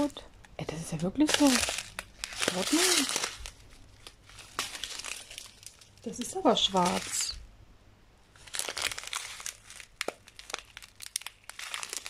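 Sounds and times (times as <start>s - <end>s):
plastic bag crinkling: 0.0s - 7.4s, 8.3s - 12.0s.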